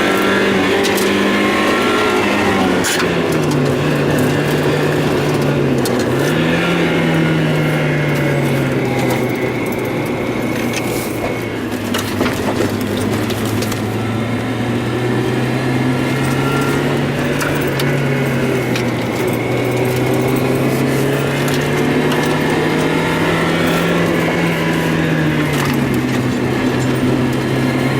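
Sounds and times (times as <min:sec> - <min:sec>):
car engine misfiring: 0:00.0 - 0:27.9.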